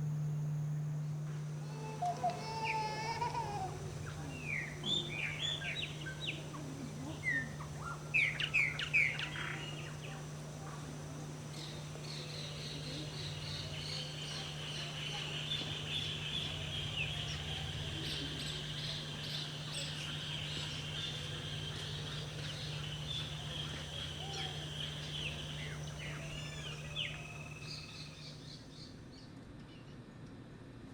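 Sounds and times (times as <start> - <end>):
birds chirping: 0.0 - 28.9
low steady hum: 0.0 - 28.9
high chorus of rapid bird notes: 1.9 - 28.4.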